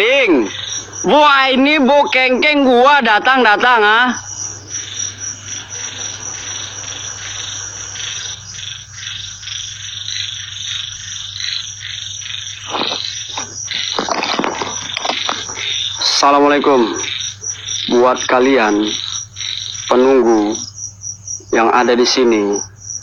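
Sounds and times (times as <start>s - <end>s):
frogs calling: 0.0s - 23.0s
high insect drone: 0.0s - 23.0s.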